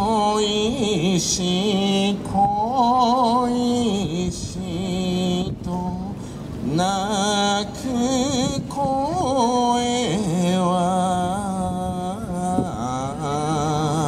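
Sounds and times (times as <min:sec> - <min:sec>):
person singing folk song: 0:00.0 - 0:14.0.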